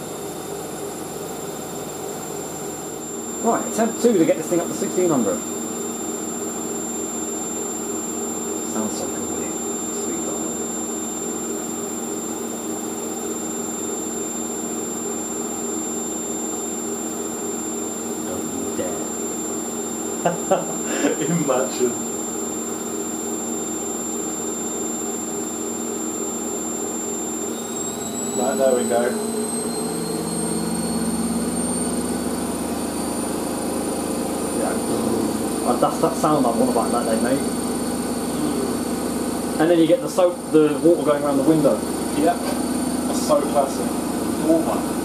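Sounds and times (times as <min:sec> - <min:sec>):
washing machine spinning: 0:00.0 - 0:45.0.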